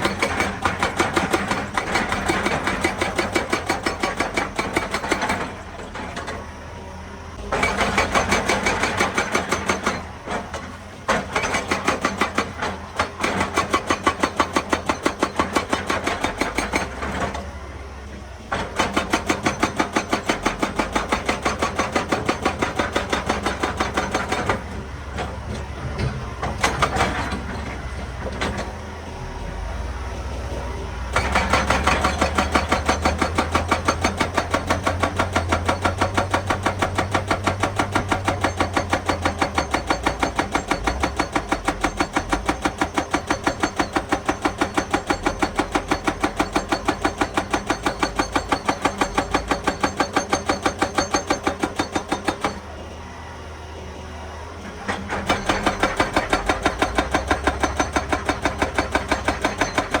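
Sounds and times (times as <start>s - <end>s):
hydraulic breaker hammering rock: 0.0s - 6.5s, 7.4s - 17.6s, 18.2s - 28.8s, 31.1s - 52.8s, 54.6s - 60.0s
excavator engine running: 0.0s - 60.0s.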